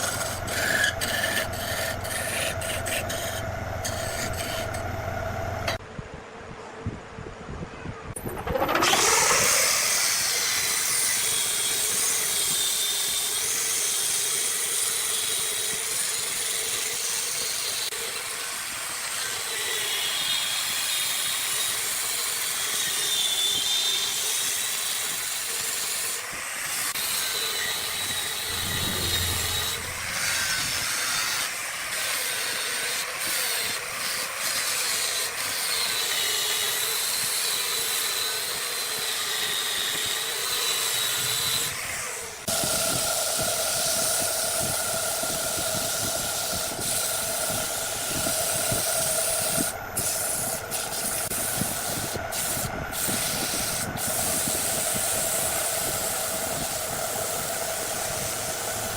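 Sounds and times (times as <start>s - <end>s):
wood lathe cutting wood: 0.0s - 5.8s, 8.5s - 18.2s, 19.1s - 58.9s.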